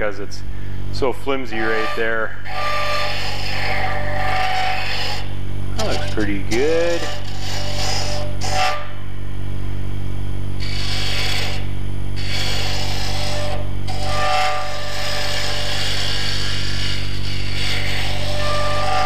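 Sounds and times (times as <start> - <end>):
tool scraping spinning wood: 1.4 - 8.8, 10.6 - 19.0
wood lathe motor humming: 1.6 - 8.7, 10.6 - 19.0.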